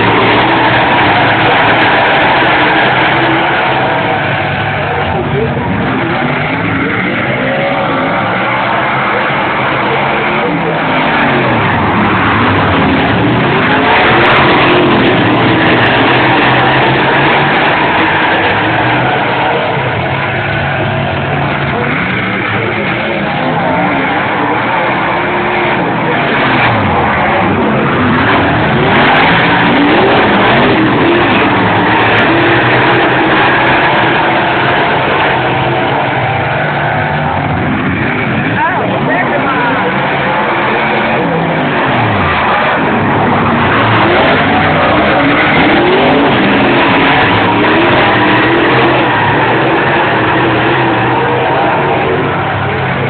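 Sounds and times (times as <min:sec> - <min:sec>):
race car engines roaring: 0:00.0 - 0:53.0.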